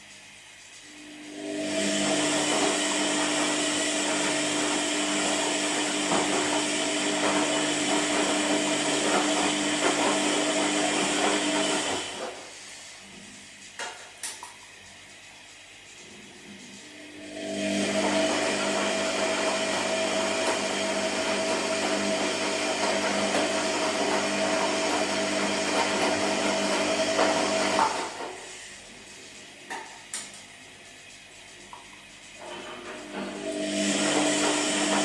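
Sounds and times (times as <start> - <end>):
washing machine drum turning: 1.4 - 12.4, 16.2 - 35.0.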